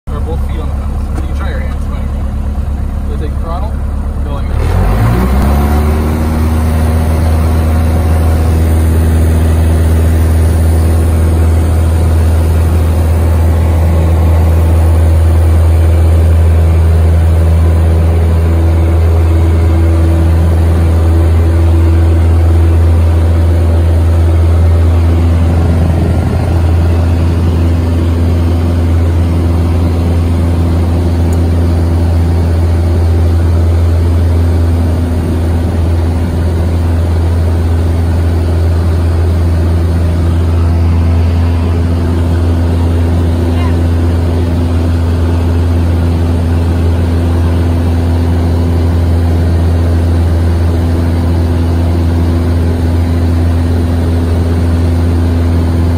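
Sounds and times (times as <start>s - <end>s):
propeller aircraft engine drone: 0.1s - 55.9s.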